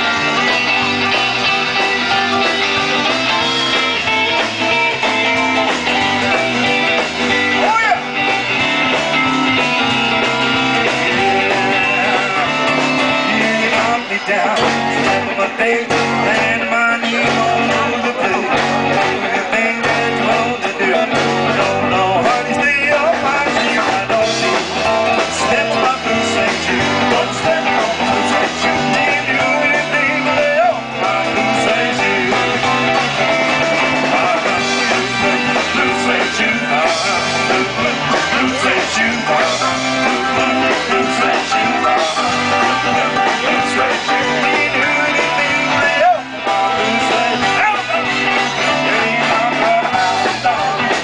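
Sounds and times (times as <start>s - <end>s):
bass line: 0.0s - 51.0s
guitar: 0.0s - 51.0s
live rock and roll band: 0.0s - 51.0s.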